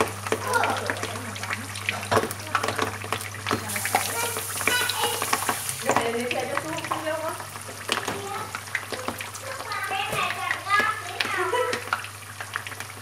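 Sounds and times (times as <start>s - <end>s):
pork frying in hot oil: 0.0s - 13.0s.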